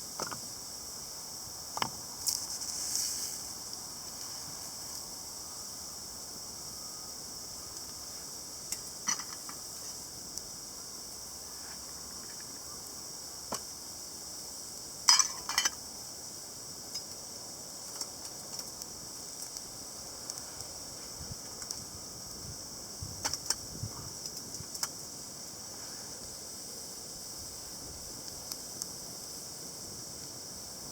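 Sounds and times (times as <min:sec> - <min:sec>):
high-pitched insect chorus: 0:00.0 - 0:30.9.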